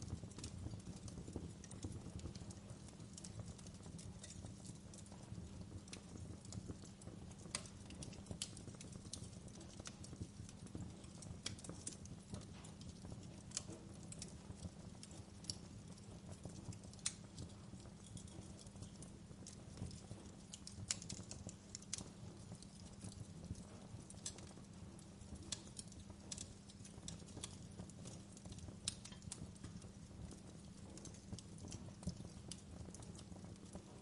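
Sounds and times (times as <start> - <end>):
gentle rain hiss: 0.0 - 34.0
wood fire crackling: 0.0 - 34.0.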